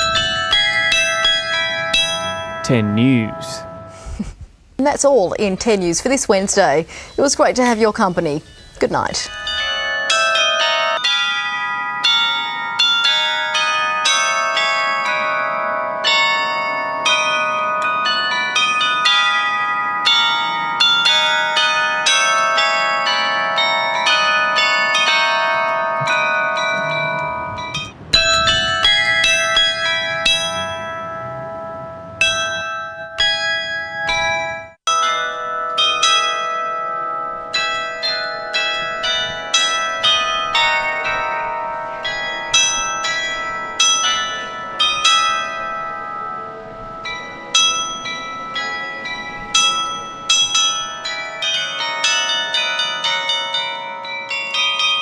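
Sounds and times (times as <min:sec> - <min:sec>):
tower bells ringing: 0:00.0 - 0:04.0, 0:06.6 - 0:55.0.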